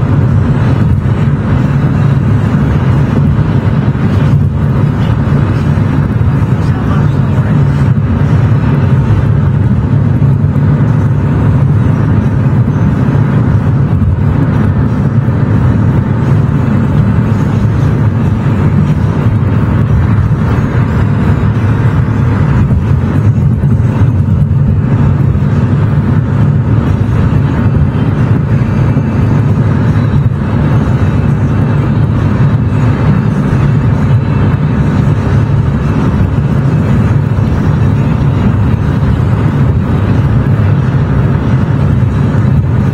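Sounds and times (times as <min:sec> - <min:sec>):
car road and engine rumble: 0:00.0 - 0:42.9.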